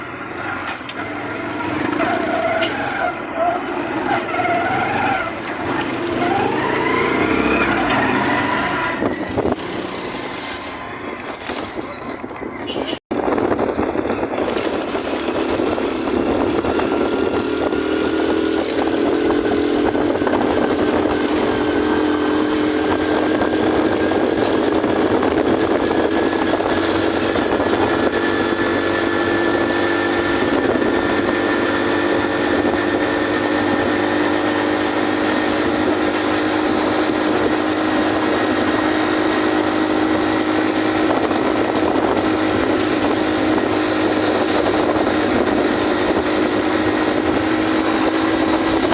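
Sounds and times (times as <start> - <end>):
motorcycle engine running: 0.0 - 3.2, 9.2 - 48.9
wind and road noise: 0.0 - 48.9.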